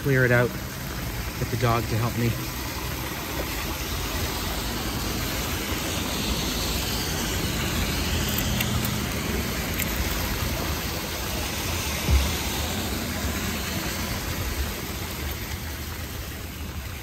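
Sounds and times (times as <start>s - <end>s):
rain runoff rushing through drain: 0.0s - 17.0s.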